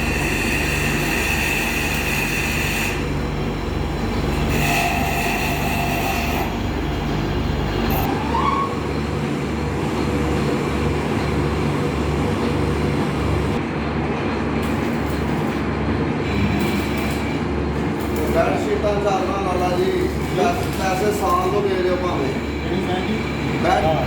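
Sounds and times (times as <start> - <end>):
metal lathe rumbling: 0.0 - 24.0.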